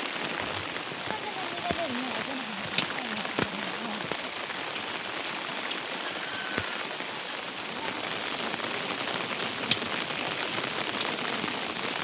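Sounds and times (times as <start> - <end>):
heavy rain patter: 0.0 - 12.0.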